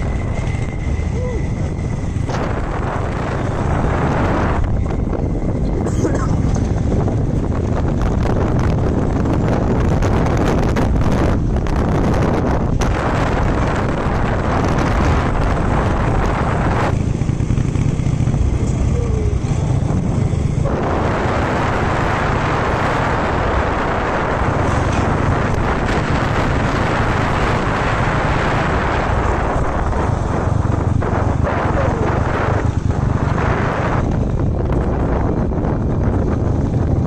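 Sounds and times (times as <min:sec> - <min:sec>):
motorcycle engine: 0:00.0 - 0:37.0
wind buffeting microphone: 0:00.0 - 0:37.0.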